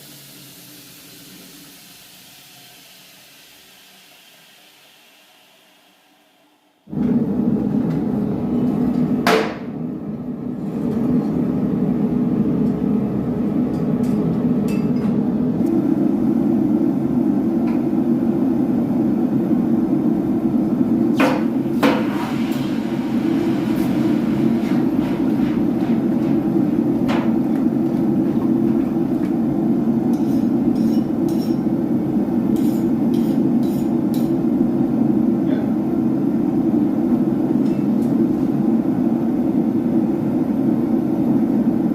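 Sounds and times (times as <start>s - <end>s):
loud workshop machine noise: 0.0s - 40.6s.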